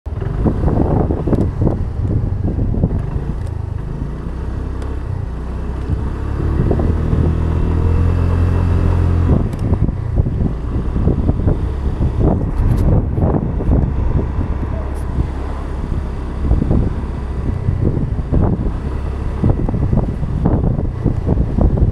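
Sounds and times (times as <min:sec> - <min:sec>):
street traffic rumble: 0:00.0 - 0:21.9
vehicle engine humming: 0:00.1 - 0:21.9.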